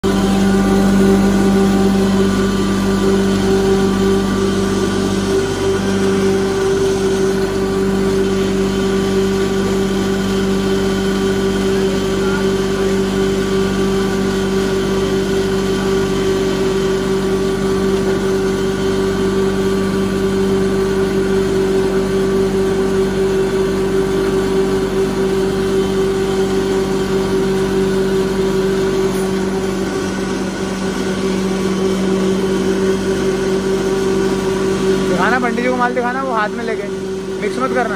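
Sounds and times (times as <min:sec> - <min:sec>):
wood grinding machine running: 0:00.0 - 0:37.9.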